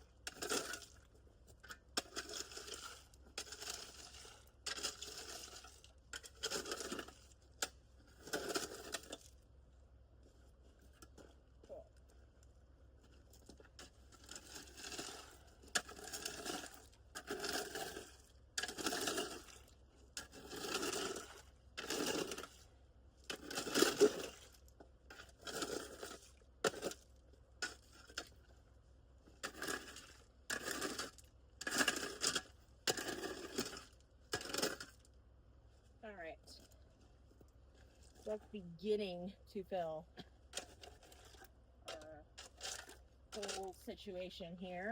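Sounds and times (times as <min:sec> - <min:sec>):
rake scraping through gravel: 0:00.2 - 0:09.4, 0:13.0 - 0:28.5, 0:29.3 - 0:35.1, 0:35.8 - 0:38.6, 0:40.4 - 0:44.3.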